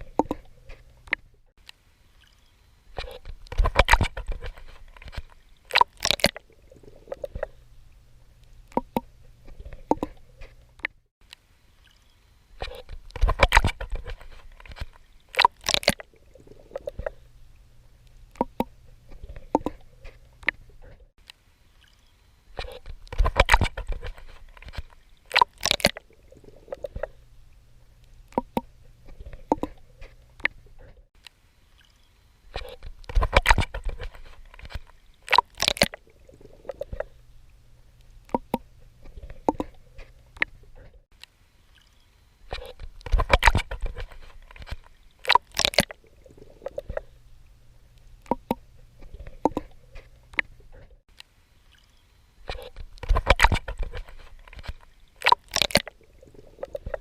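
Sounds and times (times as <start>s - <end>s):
water sloshing and gurgling: 0.0s - 57.0s
water splashing from swimming strokes: 2.2s - 7.7s, 11.8s - 20.9s, 21.6s - 30.8s, 31.7s - 40.9s, 41.6s - 50.8s, 51.7s - 57.0s.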